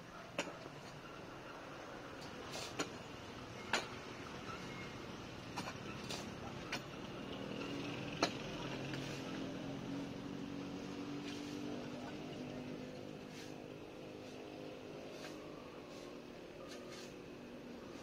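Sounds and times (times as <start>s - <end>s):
vehicle engine humming: 3.0s - 18.0s.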